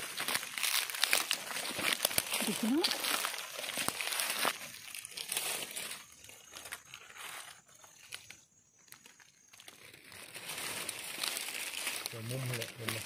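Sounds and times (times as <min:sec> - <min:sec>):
dry leaves crackling and rustling: 0:00.0 - 0:13.0.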